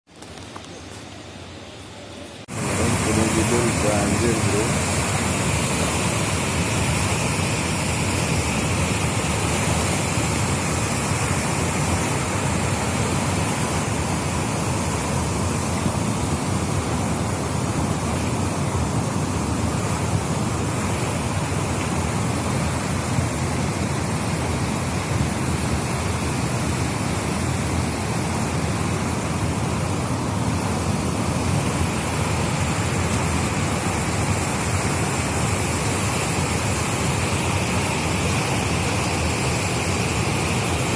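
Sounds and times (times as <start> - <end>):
water rushing: 2.4 - 40.9.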